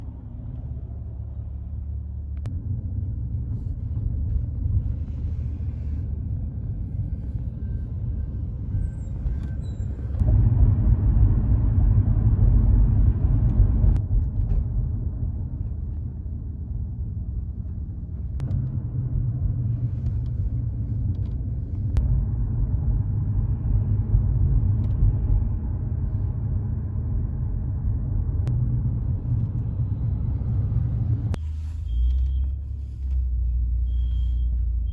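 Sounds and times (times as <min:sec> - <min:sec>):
diesel engines rumbling: 0:00.0 - 0:34.9.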